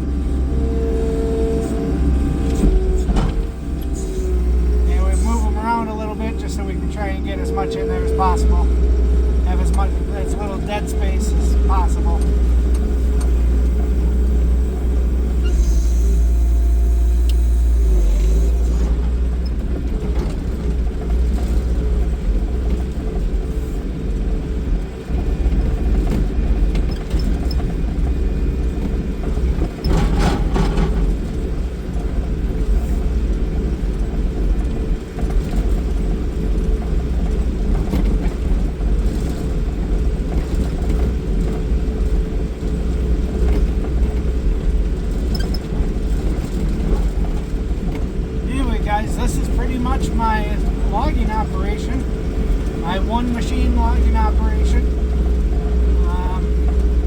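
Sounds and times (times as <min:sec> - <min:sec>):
skid loader engine rumbling: 0:00.0 - 0:57.0.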